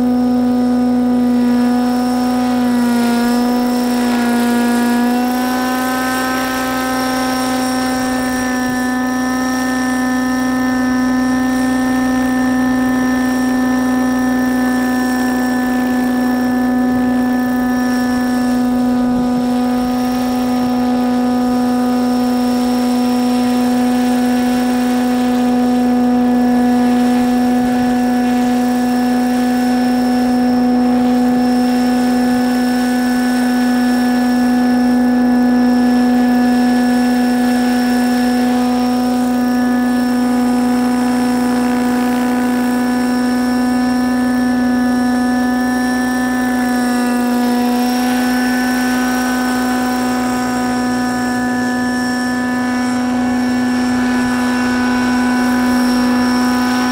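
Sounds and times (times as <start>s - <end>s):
model helicopter engine whine: 0.0s - 56.9s.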